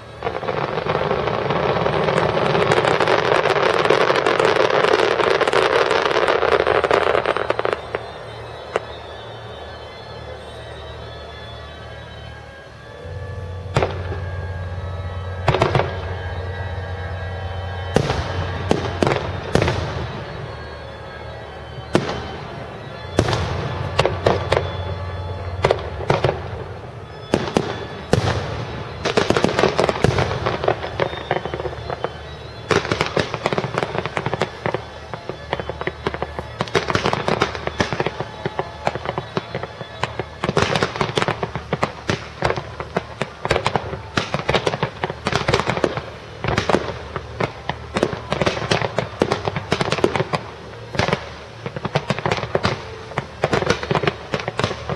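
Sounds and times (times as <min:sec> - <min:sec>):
fireworks bursting and crackling: 0:00.0 - 0:54.9.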